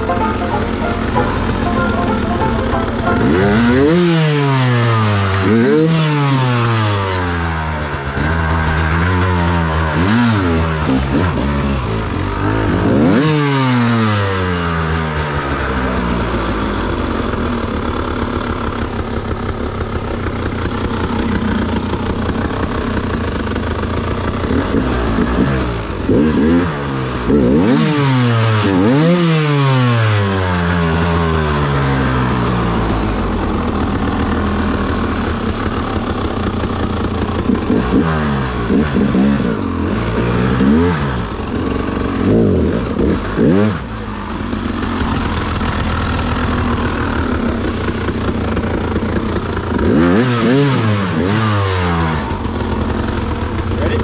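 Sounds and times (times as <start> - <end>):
motorcycle engine revving: 3.2 - 54.0.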